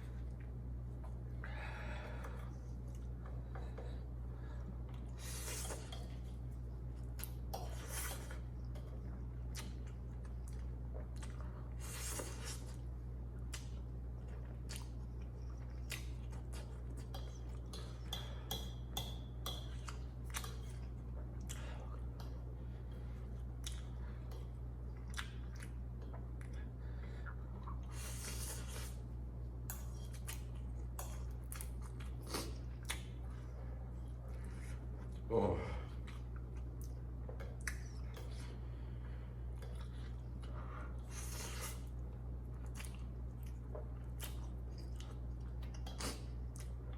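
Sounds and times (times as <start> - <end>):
steady low hum: 0.0 - 46.9
person chewing noodles: 2.2 - 35.3, 35.9 - 46.9.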